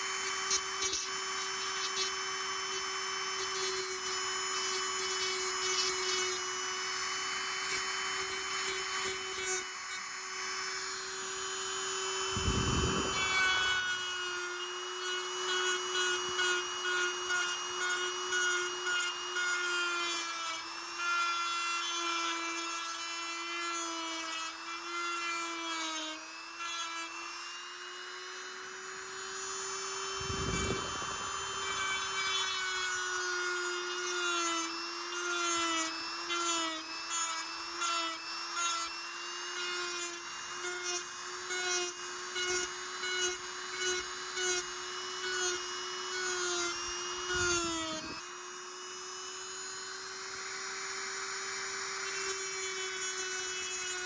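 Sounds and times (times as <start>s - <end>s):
rotary tool cutting steel: 0.0s - 54.0s.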